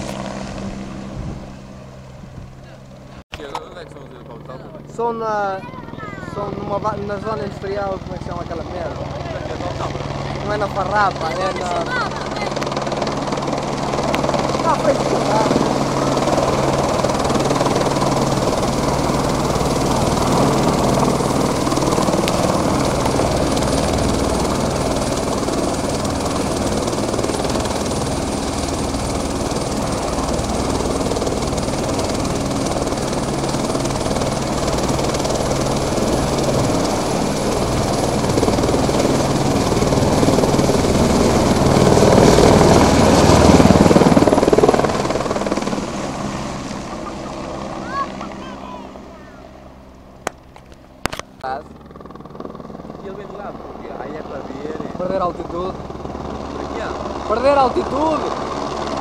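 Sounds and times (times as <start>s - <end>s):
helicopter hovering: 0.0s - 59.0s.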